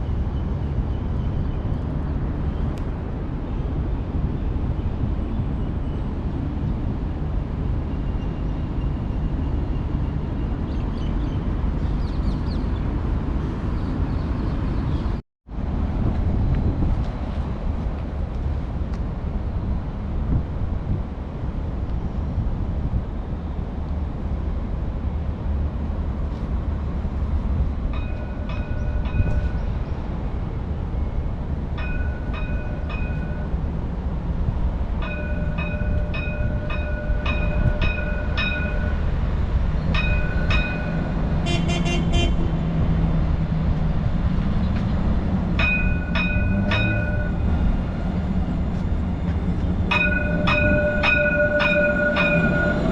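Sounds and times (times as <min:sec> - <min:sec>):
tram rumbling: 0:00.0 - 0:52.9.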